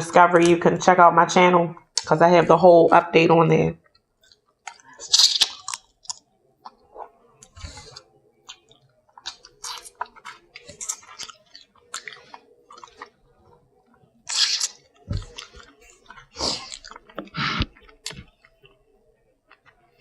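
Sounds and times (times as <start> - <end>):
person chewing food: 3.8 - 20.0.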